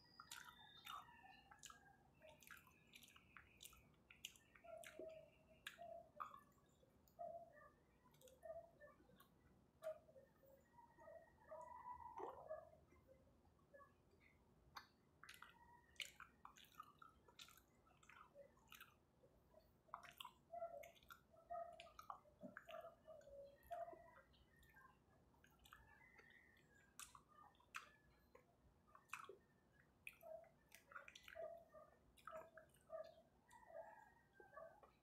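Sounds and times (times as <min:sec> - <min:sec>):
soft chewing and mouth clicks: 0:00.0 - 0:35.0.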